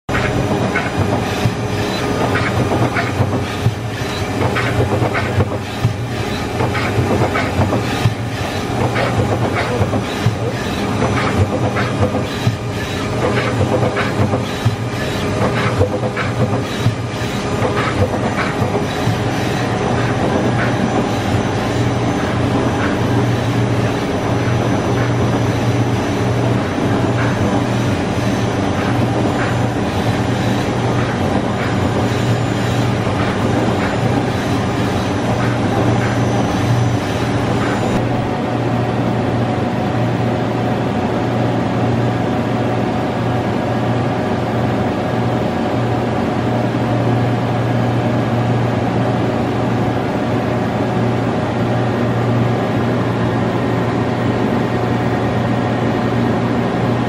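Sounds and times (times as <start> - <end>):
lathe machine hum: 0.1 - 57.0.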